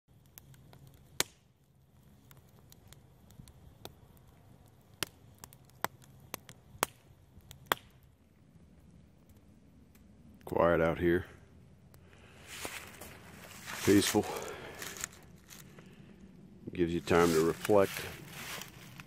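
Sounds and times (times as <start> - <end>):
burning wood popping: 0.1 - 19.0
campfire crackling: 0.1 - 19.0.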